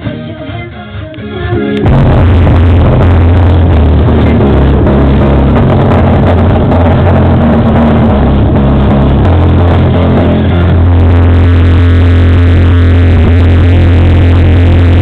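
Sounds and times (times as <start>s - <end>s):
loud bass-heavy car audio music: 0.0s - 15.0s.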